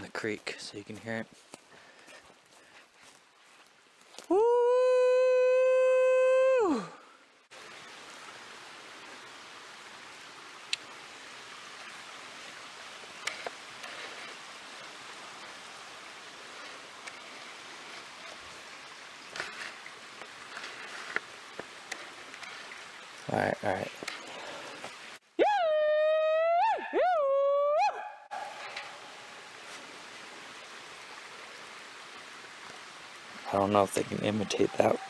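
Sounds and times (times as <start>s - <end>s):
creek rushing: 0.0s - 4.5s, 6.5s - 25.5s, 28.2s - 35.0s.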